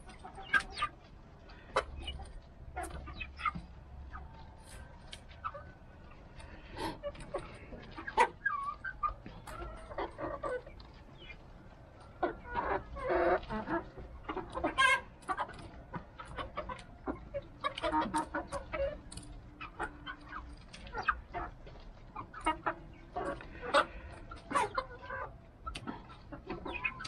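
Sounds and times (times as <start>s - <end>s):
hens clucking: 0.0s - 27.0s
pecking ticks and rustles: 0.0s - 27.0s.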